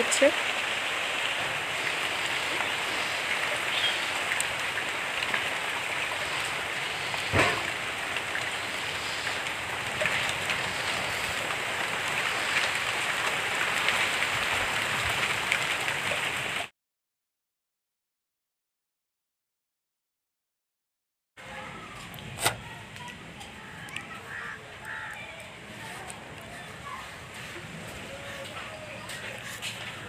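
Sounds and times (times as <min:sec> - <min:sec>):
rain falling on foliage: 0:00.0 - 0:16.7, 0:21.4 - 0:30.0.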